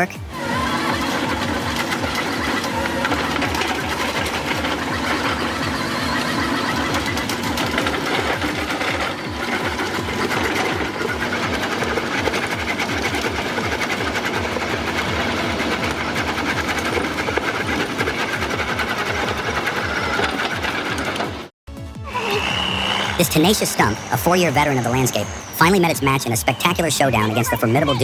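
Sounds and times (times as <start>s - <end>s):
cutter drum grinding wood: 0.2s - 21.5s, 22.2s - 28.0s.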